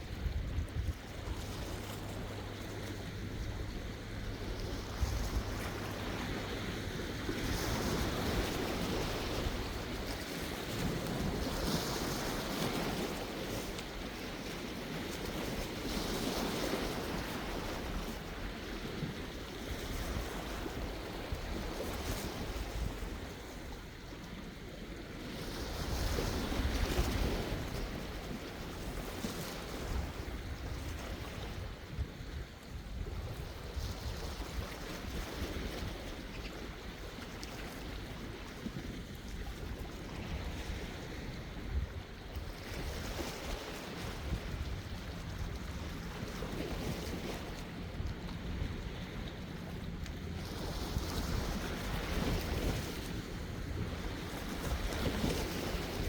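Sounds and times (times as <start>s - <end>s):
sea waves breaking: 0.0s - 56.0s
wind rumbling on microphone: 0.0s - 56.0s.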